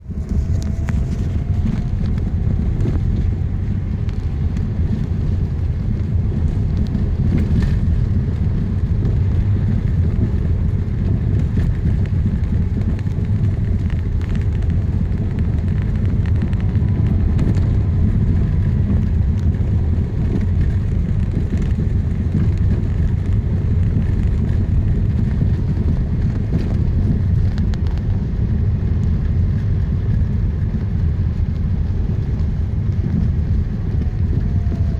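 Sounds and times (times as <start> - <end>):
road and tyre rumble: 0.0 - 34.9.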